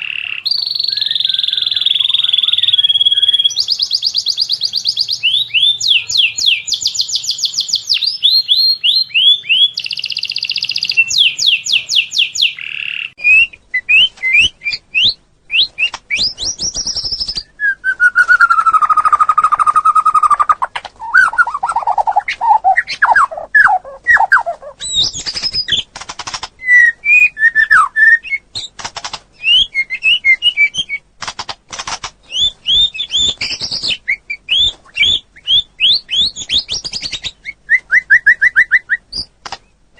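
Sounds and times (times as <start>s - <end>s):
songbird singing: 0.0s - 25.9s, 29.3s - 31.1s, 32.2s - 39.8s.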